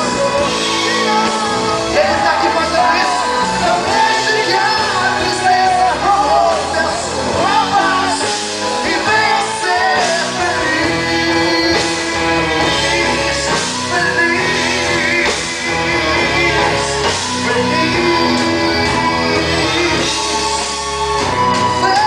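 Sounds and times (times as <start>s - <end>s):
person singing: 0.0s - 22.0s
pop-rock band playing: 0.0s - 22.0s.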